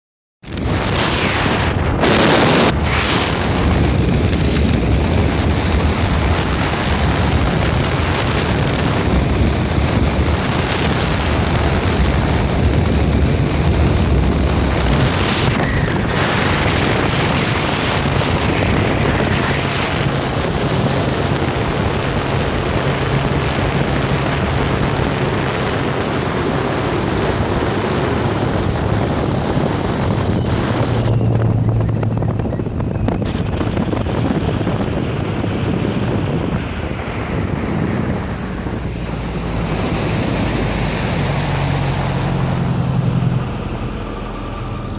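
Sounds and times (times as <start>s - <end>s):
boat engine hum: 0.4s - 44.9s
wind rushing over microphone: 0.4s - 44.9s.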